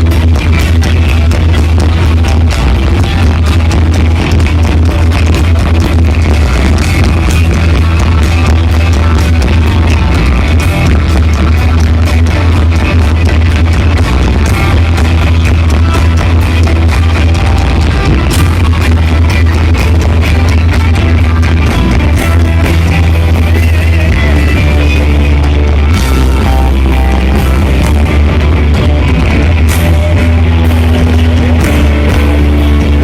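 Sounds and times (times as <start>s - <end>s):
loud rock band music: 0.0s - 33.0s.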